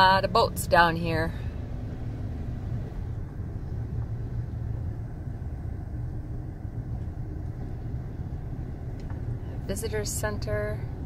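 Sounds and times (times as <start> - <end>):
engine and road rumble in cab: 0.0 - 11.0.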